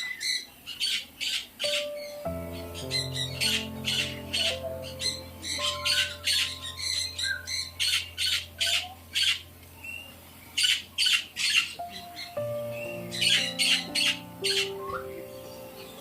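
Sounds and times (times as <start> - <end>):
birds squawking harshly: 0.0 - 9.5, 10.6 - 15.2
soft background music: 1.6 - 16.0.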